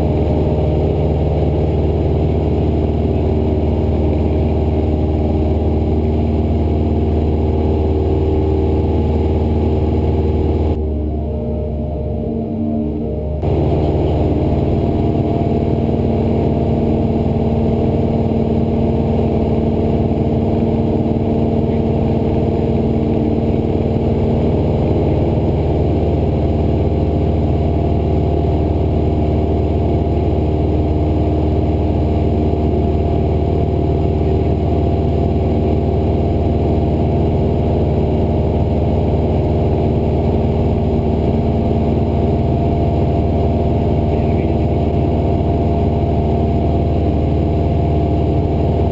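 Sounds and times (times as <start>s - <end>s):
aircraft propeller engine droning: 0.0s - 48.9s.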